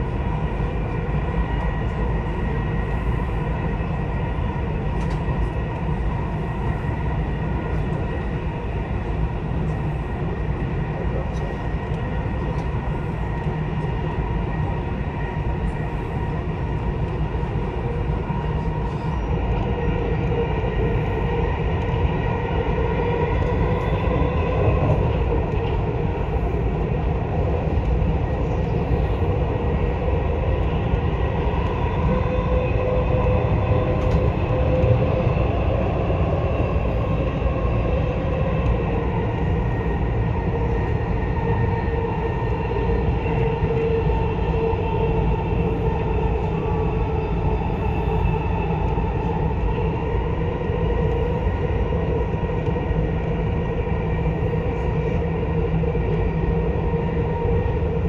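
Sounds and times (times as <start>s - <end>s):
train wheels rumbling on rail: 0.0s - 58.0s
train whine: 0.0s - 58.0s.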